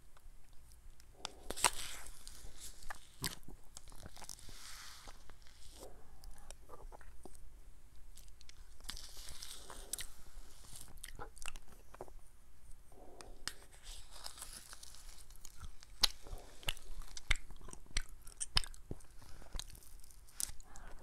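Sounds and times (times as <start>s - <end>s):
wet mouth chewing sounds: 0.4s - 7.4s, 8.0s - 12.2s, 13.0s - 21.0s.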